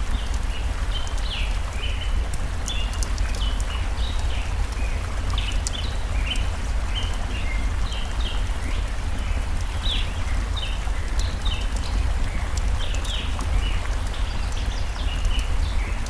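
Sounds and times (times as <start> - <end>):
flowing stream: 0.0 - 16.0.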